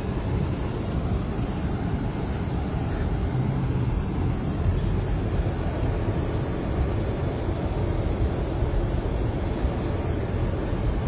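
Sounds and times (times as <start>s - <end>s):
car driving through floodwater: 0.0s - 11.0s.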